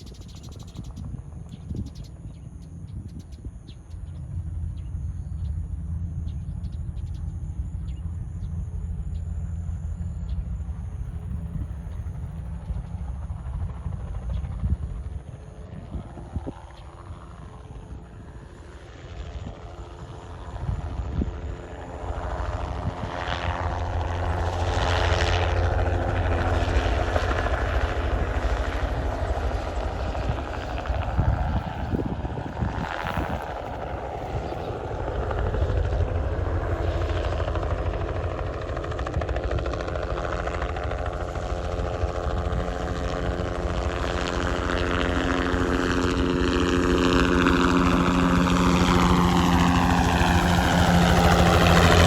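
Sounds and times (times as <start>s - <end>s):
helicopter flying low: 0.0s - 52.0s.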